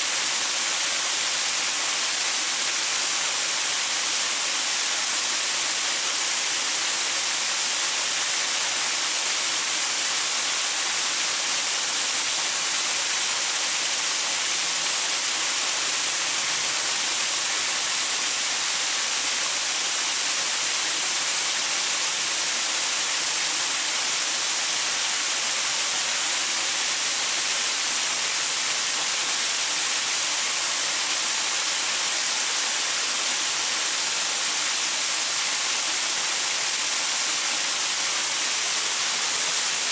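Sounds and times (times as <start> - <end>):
small waterfall splashing over rocks: 0.0 - 39.9.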